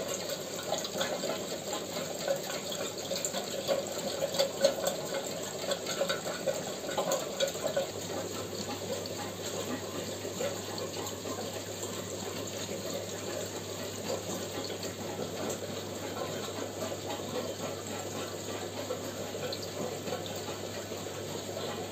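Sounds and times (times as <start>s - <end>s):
aquarium filter bubbling water: 0.0s - 21.9s.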